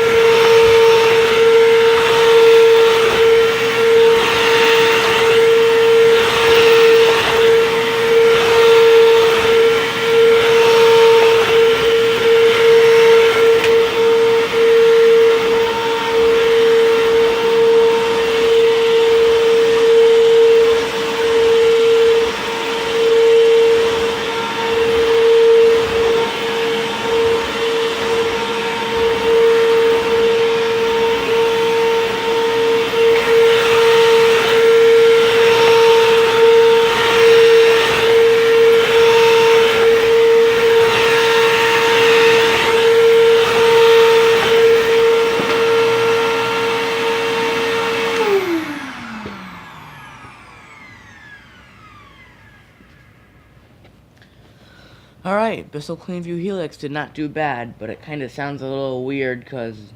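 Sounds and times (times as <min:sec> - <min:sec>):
vacuum cleaner motor whine: 0:00.0 - 0:55.4.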